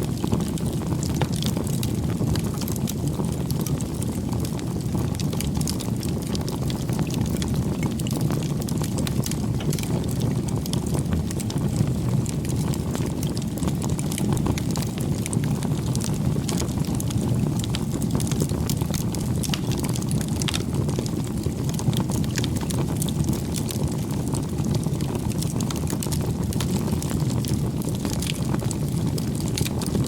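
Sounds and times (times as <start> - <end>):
bonfire crackling: 0.0 - 30.0
burning wood popping: 0.2 - 30.0.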